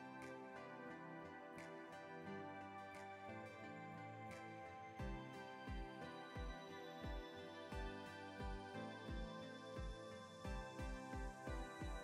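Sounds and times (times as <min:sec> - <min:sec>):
quiet instrumental music: 0:00.0 - 0:12.0.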